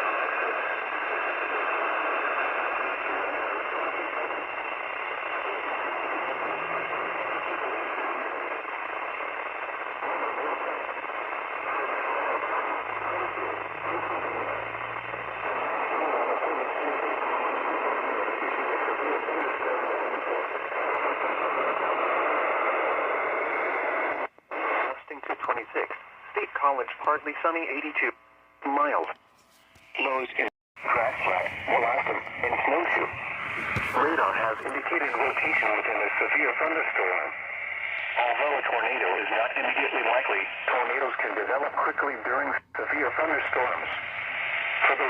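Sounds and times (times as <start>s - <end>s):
radio static hiss: 0.0s - 45.0s.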